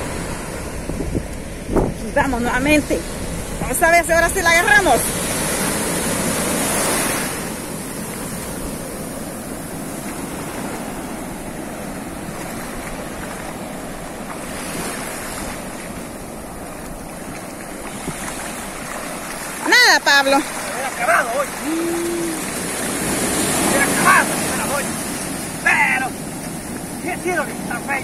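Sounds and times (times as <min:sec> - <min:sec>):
ocean surf breaking and washing: 0:00.0 - 0:28.0.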